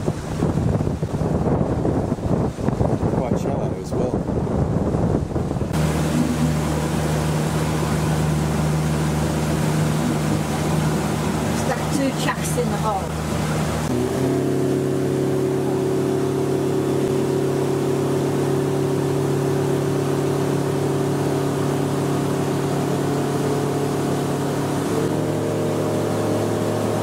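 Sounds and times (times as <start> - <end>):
powerboat engine running: 0.0 - 27.0.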